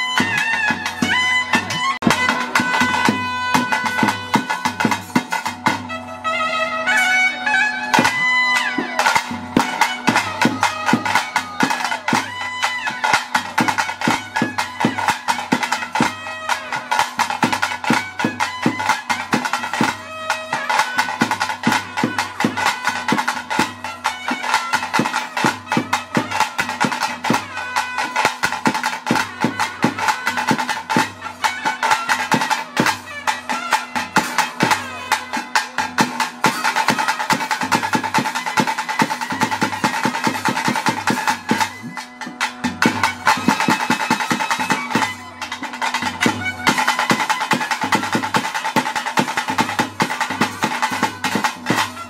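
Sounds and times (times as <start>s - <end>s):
wind instrument melody: 0.0s - 52.0s.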